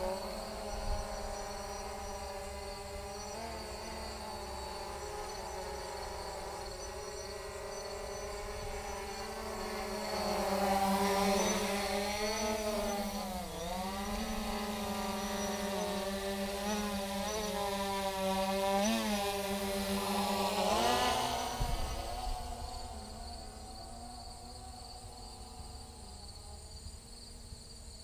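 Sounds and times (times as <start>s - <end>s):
drone propellers buzzing: 0.0s - 27.7s.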